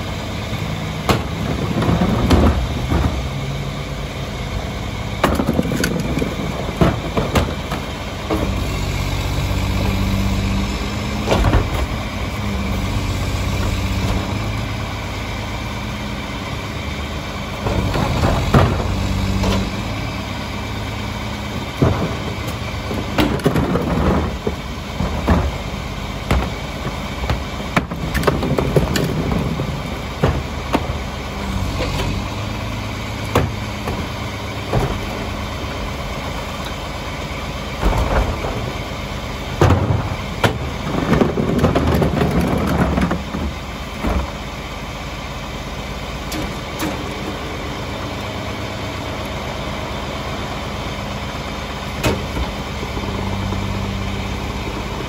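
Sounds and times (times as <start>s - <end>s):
diesel truck engine idling: 0.0s - 55.0s
trash carts knocking and clattering: 0.5s - 3.7s, 5.1s - 15.2s, 17.4s - 45.0s, 46.0s - 55.0s.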